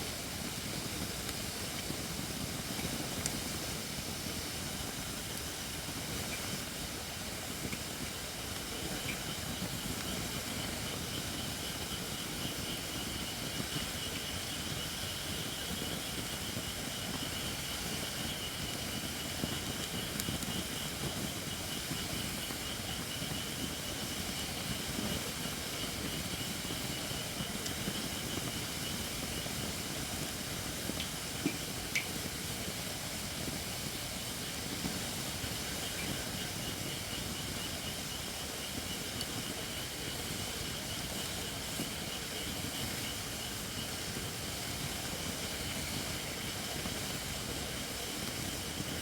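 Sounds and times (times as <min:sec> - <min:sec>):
wood fire hissing: 0:00.0 - 0:49.0.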